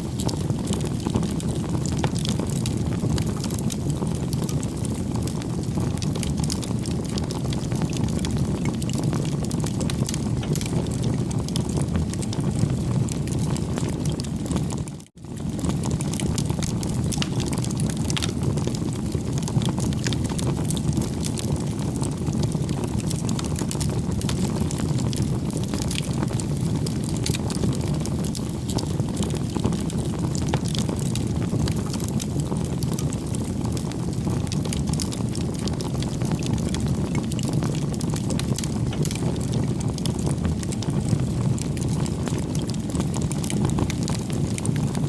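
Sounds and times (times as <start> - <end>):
campfire crackling: 0.0 - 45.0.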